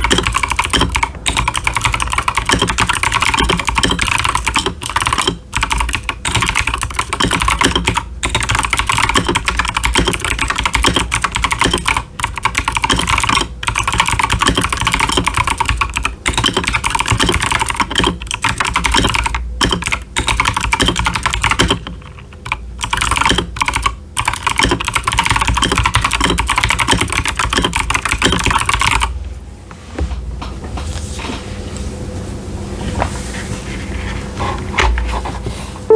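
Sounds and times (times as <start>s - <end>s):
mechanical keyboard typing: 0.0s - 29.1s.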